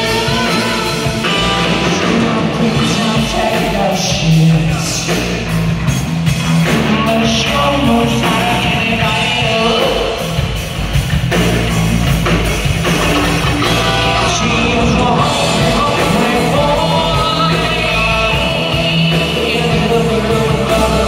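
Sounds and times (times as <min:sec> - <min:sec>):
drum kit: 0:00.0 - 0:21.0
electric bass: 0:00.0 - 0:21.0
electric guitars: 0:00.0 - 0:21.0.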